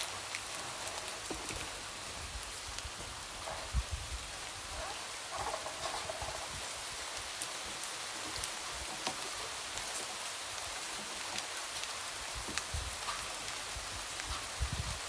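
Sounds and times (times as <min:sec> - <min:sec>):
rain pattering on a window: 0:00.0 - 0:15.0.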